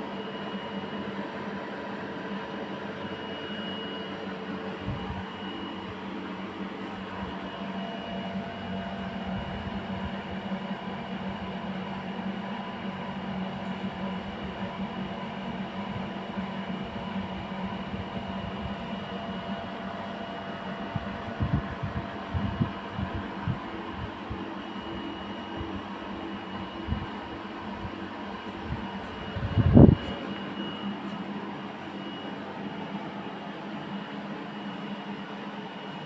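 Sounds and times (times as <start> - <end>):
air conditioner hum and fan: 0.0 - 36.0.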